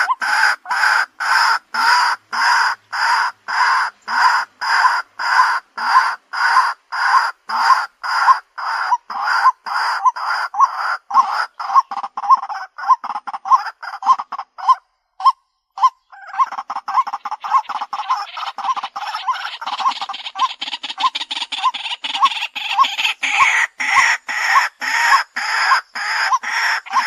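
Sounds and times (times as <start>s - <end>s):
bird harsh repeated calls: 0.0s - 27.0s.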